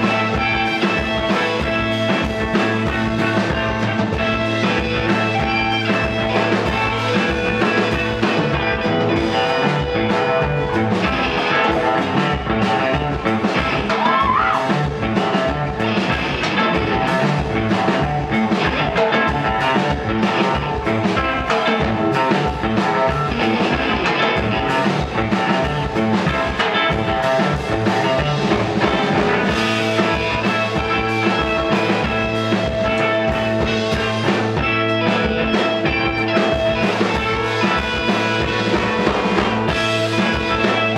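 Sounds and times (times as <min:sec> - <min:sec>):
driving drum beat: 0:00.0 - 0:40.9
electric guitars: 0:00.0 - 0:40.9.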